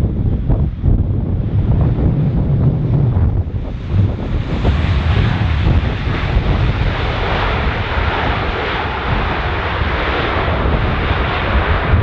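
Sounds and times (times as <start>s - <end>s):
jet engines roaring: 0.0s - 12.0s
wind buffeting microphone: 0.0s - 12.0s.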